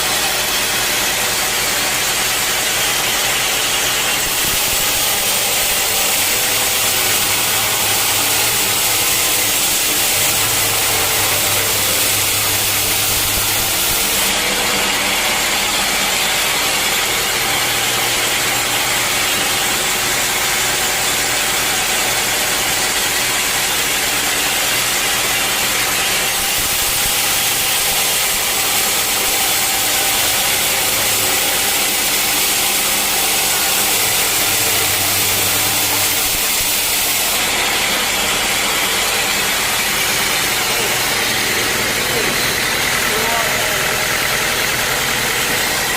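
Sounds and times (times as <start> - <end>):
loud hiss: 0.0 - 17.3, 24.6 - 45.9
saw motor humming: 0.0 - 45.9.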